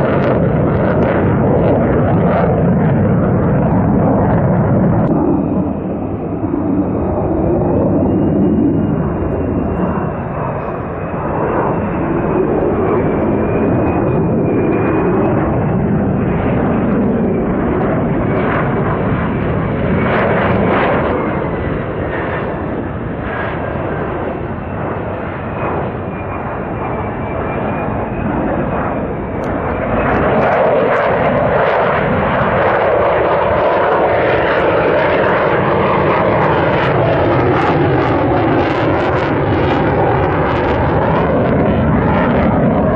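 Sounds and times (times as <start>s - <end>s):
jet engine rush and whine: 0.0s - 42.9s
jet passing with falling tone: 0.0s - 42.9s.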